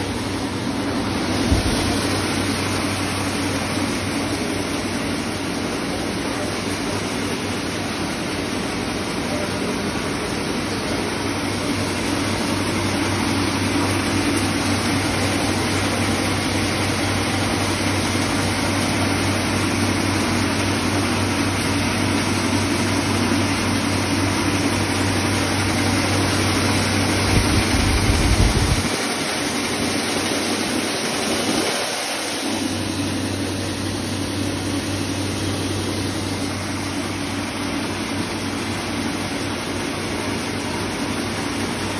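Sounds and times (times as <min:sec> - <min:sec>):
grinding machine humming: 0:00.0 - 0:41.9.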